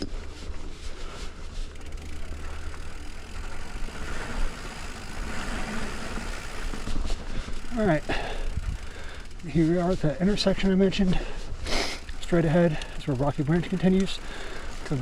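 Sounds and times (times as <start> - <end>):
bike tyres on dirt trail: 0.0 - 15.0.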